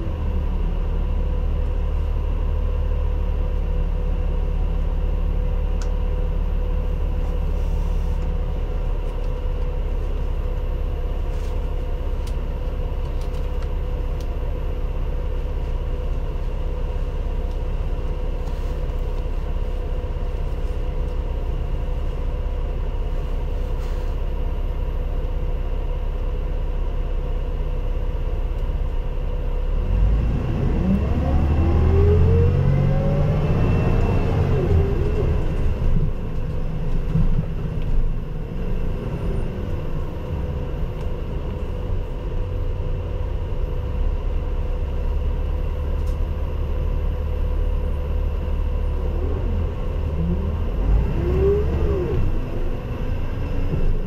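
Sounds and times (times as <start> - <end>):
bus engine idling and revving: 0.0 - 54.0.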